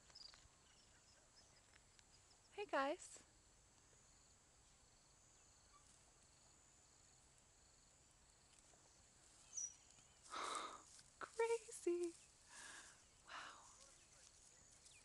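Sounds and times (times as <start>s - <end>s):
faint insect chirping: 0.0s - 15.0s.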